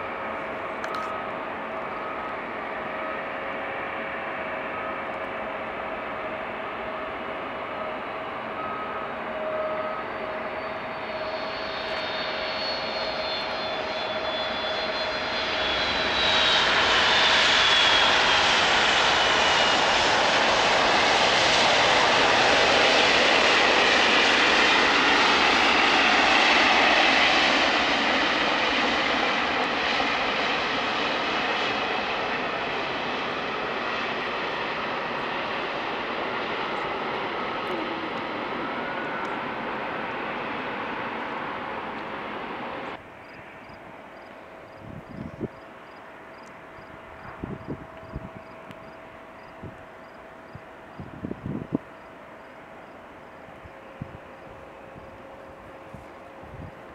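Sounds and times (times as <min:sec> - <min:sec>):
jet engines passing: 0:00.0 - 0:56.9.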